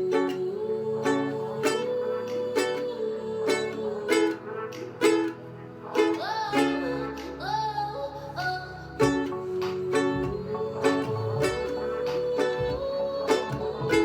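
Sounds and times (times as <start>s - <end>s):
ukulele strumming: 0.0s - 7.6s, 9.0s - 14.0s.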